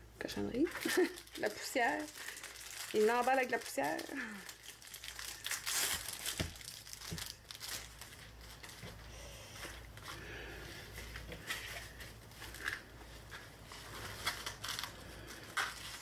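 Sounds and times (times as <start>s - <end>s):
plastic bag crinkling: 0.5s - 10.2s, 11.1s - 16.0s.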